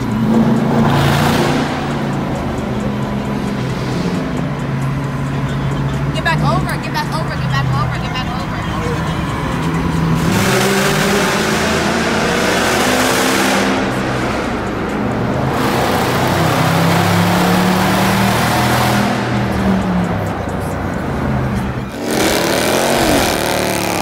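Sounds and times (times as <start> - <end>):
car engines accelerating in tunnel: 0.0 - 24.0.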